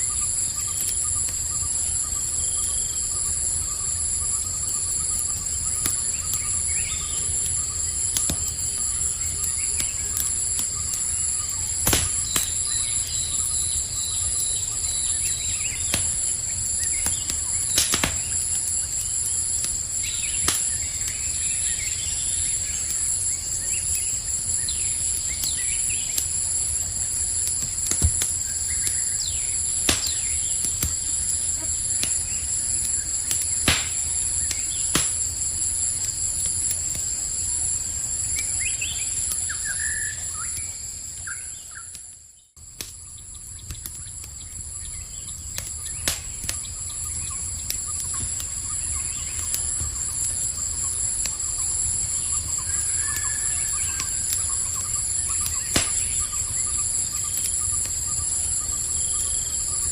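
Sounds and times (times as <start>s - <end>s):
campfire crackling and popping: 0.0s - 59.9s
insects trilling: 0.0s - 59.9s.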